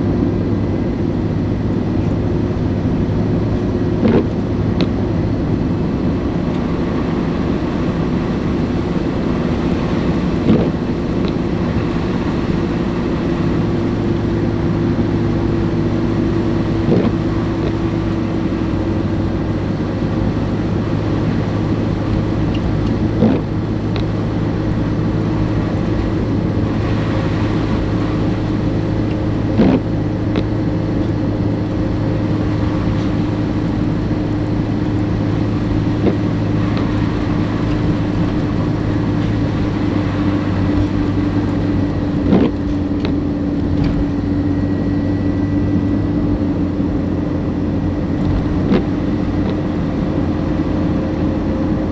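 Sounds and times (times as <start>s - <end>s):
car engine and tyre drone: 0.0s - 51.9s
constant low hum: 0.0s - 51.9s.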